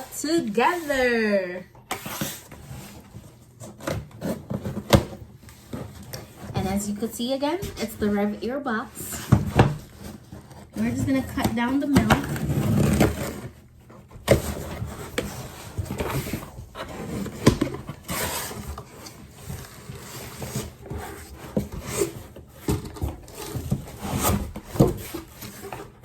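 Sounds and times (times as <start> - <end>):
packaging rustling and scraping: 0.0 - 26.0.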